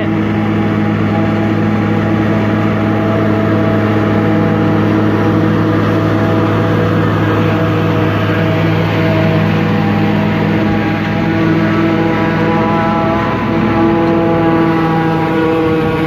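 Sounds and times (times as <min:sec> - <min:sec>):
forage harvester mechanical rush: 0:00.0 - 0:16.0
tractor diesel engine drone: 0:00.0 - 0:16.0.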